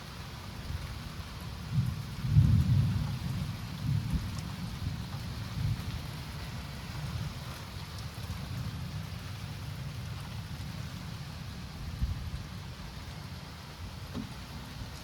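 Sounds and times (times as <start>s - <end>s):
steady rain: 0.0s - 15.0s
thunder rumbling: 1.6s - 15.0s.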